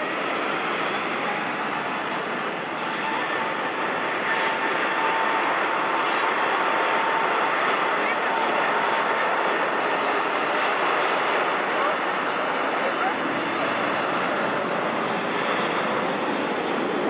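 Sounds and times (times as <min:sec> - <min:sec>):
faint jet engine whine: 0:00.0 - 0:17.0
jet engines rushing: 0:00.0 - 0:17.0.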